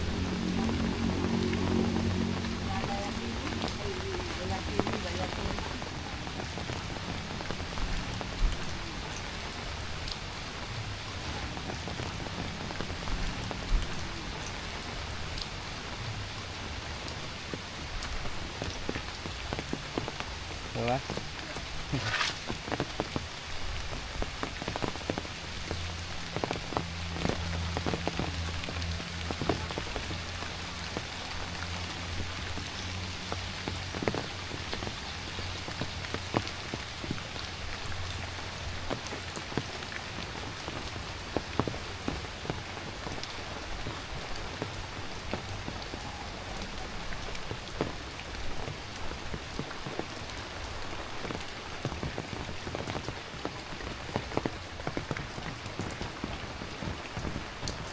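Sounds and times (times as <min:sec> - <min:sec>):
close raindrops striking: 0:00.0 - 0:57.9
heavy rain falling: 0:00.0 - 0:57.9.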